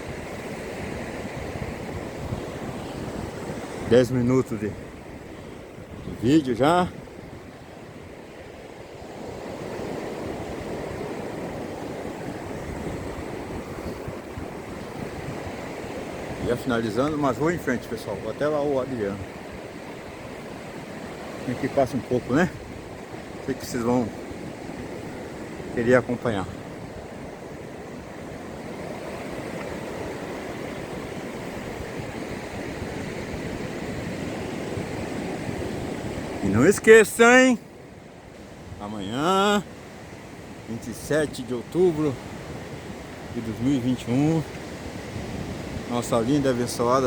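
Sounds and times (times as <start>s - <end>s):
sea surf rushing: 0.0s - 47.0s
wind buffeting microphone: 0.0s - 47.0s.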